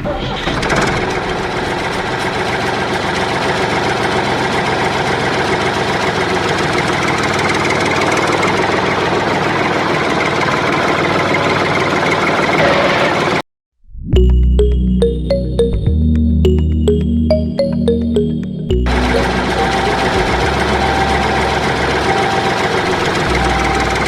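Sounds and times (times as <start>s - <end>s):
engine running: 0.0s - 13.4s, 18.0s - 24.0s.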